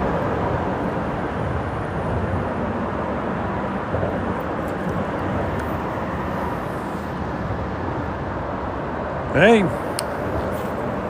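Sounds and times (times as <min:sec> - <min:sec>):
freeway traffic rushing: 0:00.0 - 0:11.0.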